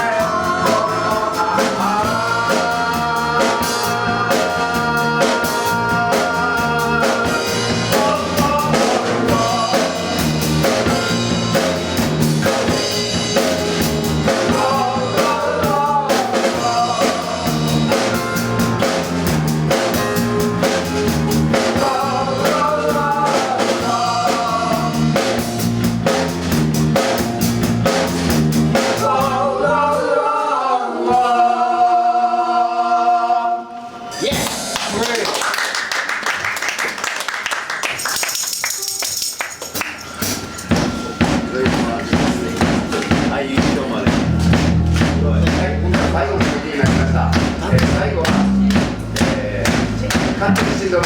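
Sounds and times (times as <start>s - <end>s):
live rock band playing: 0.0s - 30.0s, 37.8s - 51.0s.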